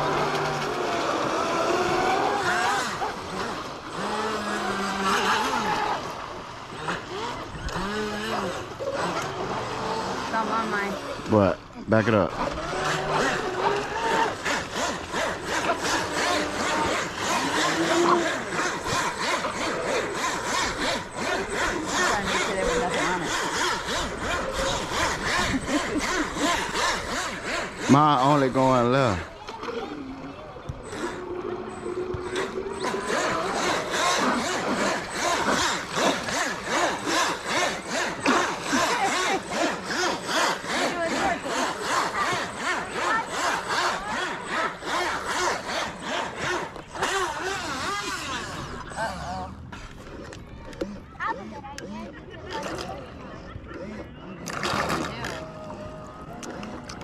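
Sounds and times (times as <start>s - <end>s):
electric motors whining: 0.0s - 57.0s.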